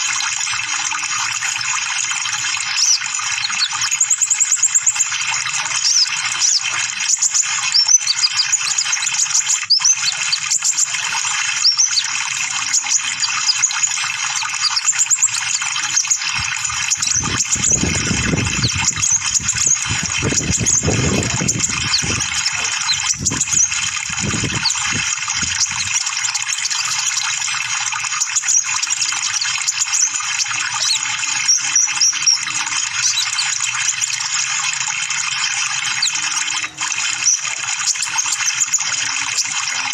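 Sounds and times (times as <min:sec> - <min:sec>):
bird twittering: 0:01.1 - 0:34.3.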